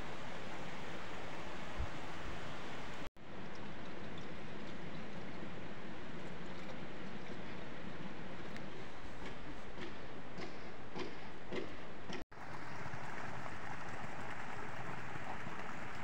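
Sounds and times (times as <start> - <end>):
running water rushing: 0.0 - 9.2, 12.3 - 16.0.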